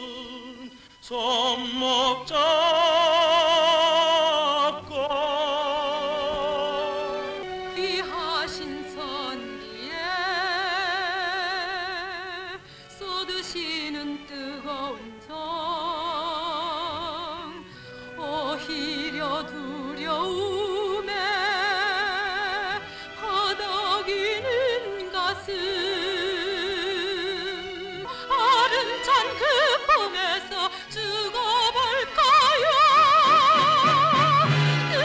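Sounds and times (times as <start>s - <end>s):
woman singing with vibrato: 0.0s - 35.0s.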